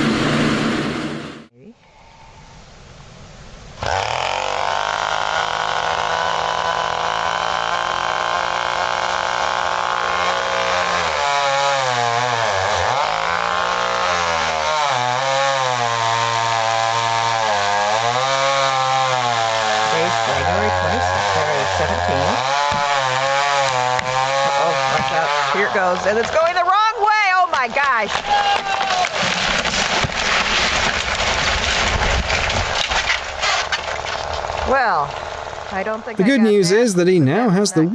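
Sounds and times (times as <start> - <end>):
chainsaw cutting: 3.8 - 26.9, 29.0 - 37.6.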